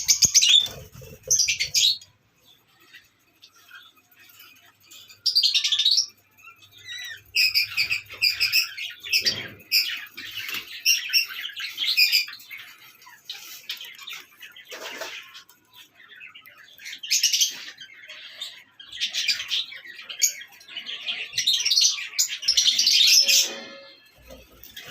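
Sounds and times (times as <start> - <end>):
lovebirds chirping: 0.0 - 24.9.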